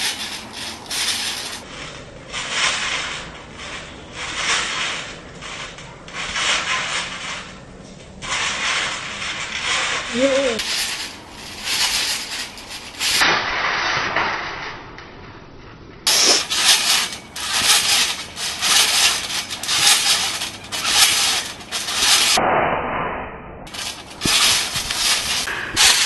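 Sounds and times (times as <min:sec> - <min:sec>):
trampoline springs creaking: 0:00.0 - 0:22.4, 0:23.7 - 0:26.0.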